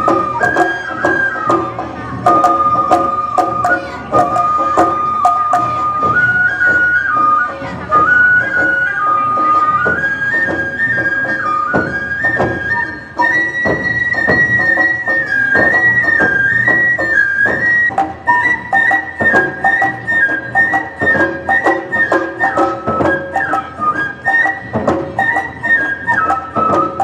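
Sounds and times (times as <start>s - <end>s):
bamboo flute melody: 0.0s - 27.0s
steady drum beat: 0.0s - 27.0s.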